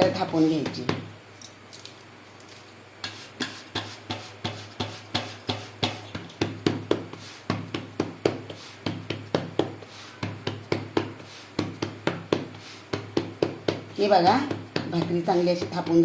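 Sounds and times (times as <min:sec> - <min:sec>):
palms patting dough: 0:03.0 - 0:16.0.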